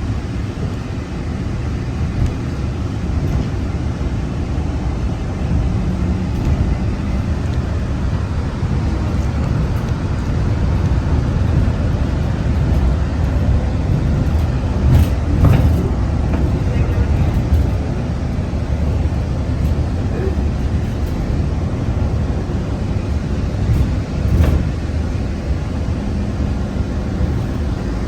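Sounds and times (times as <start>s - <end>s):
monorail low rumble: 0.0s - 28.0s.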